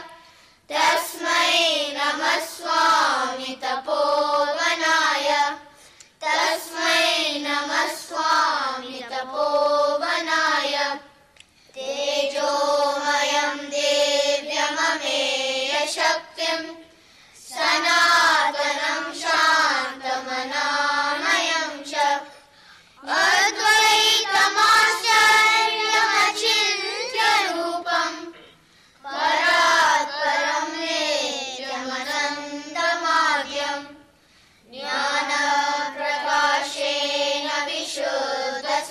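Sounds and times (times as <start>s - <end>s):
children chanting in unison: 0.0s - 11.0s, 11.8s - 22.4s, 23.0s - 34.0s, 34.6s - 38.9s.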